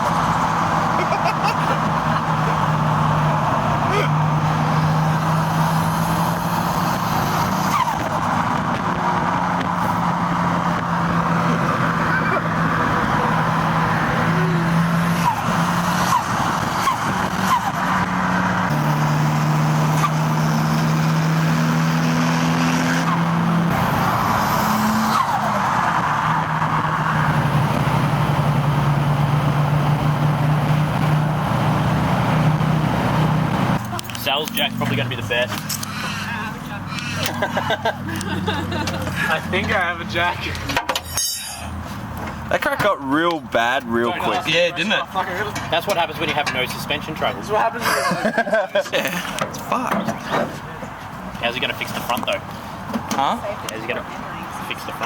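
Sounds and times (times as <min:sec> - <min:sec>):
car engine drone: 0:00.0 - 0:55.0
road and wind noise: 0:00.0 - 0:55.0.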